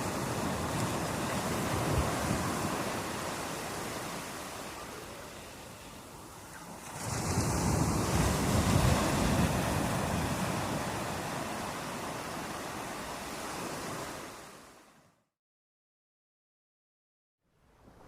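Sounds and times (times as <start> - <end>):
sea waves breaking on shore: 0.0 - 15.1.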